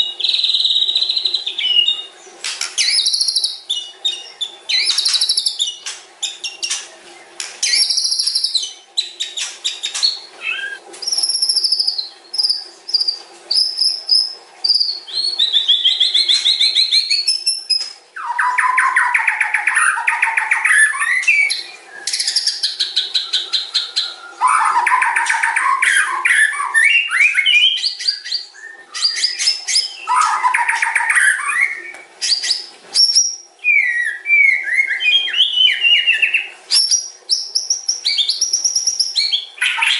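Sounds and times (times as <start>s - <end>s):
bird singing with trills: 0.0s - 39.9s.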